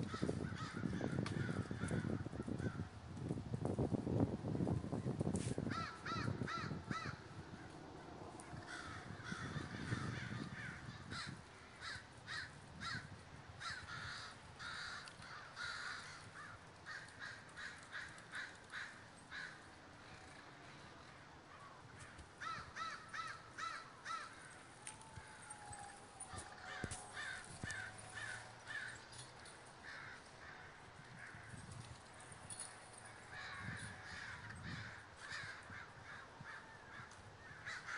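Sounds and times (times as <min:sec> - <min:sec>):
crows cawing: 0:00.0 - 0:02.8, 0:05.6 - 0:07.7, 0:08.4 - 0:25.4, 0:26.2 - 0:31.8, 0:32.6 - 0:37.9.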